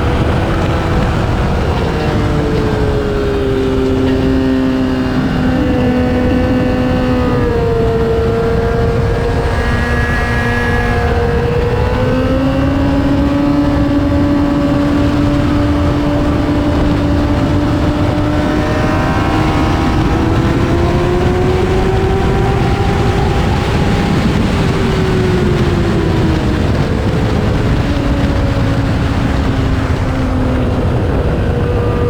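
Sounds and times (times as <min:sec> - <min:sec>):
motorcycle engine at high revs: 0:00.0 - 0:32.0
wind rush: 0:00.0 - 0:32.0.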